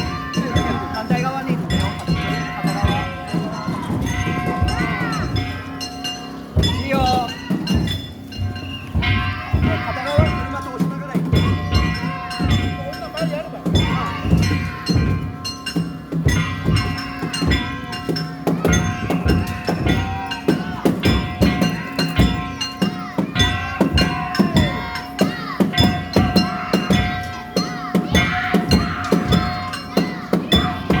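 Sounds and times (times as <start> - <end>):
metal gongs ringing: 0.0 - 31.0
taiko drums beating: 0.0 - 31.0.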